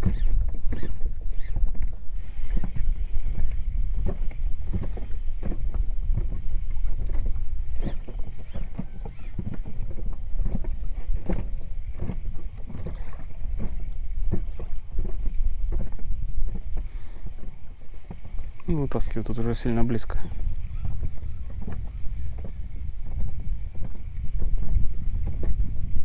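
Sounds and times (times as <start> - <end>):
waves slapping boat hull: 0.0 - 26.0
wind rumble on microphone: 0.0 - 26.0.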